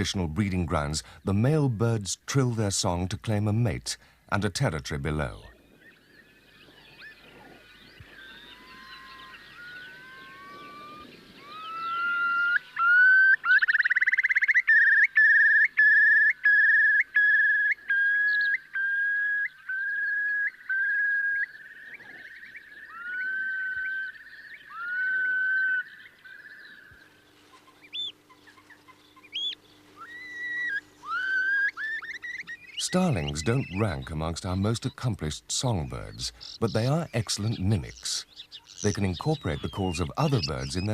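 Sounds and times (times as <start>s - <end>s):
faint steady hum: 0.0s - 40.9s
curlew whistling trill song: 5.5s - 40.9s.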